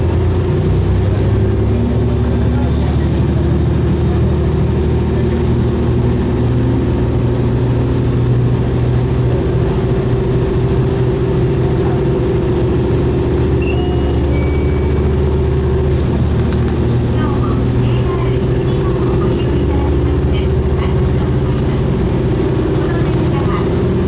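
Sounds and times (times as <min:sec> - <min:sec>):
railcar engine drone: 0:00.0 - 0:24.0.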